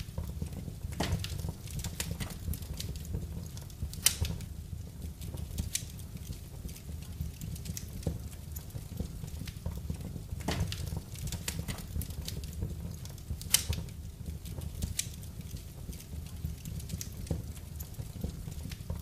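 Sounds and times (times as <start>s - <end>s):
loud fire crack: 0.0s - 19.0s
wood fire crackling: 0.0s - 19.0s.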